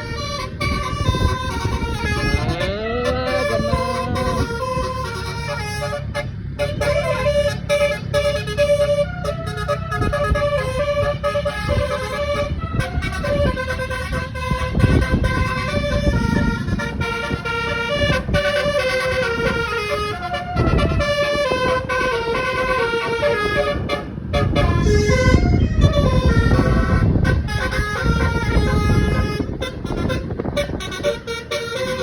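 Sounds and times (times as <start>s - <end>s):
low rumble: 0.0s - 32.0s
multi-tone air horn melody: 0.0s - 32.0s.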